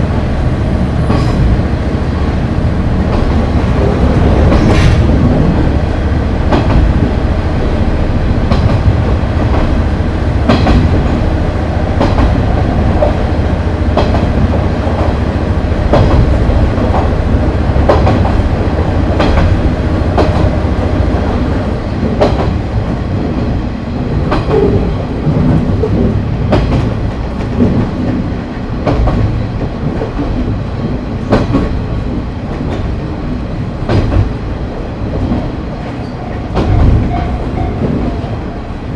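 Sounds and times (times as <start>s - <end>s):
diesel railcar rumble: 0.0s - 38.9s
wheels clacking over rail joints: 6.4s - 7.8s, 8.4s - 34.5s, 35.1s - 38.9s.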